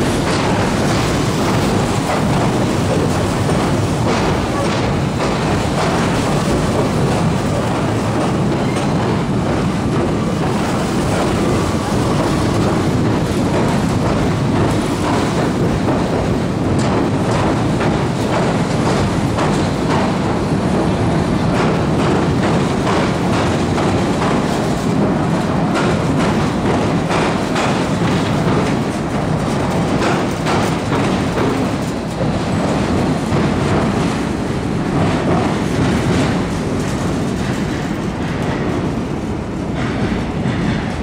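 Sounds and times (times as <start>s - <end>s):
train rumbling on bridge: 0.0s - 41.0s.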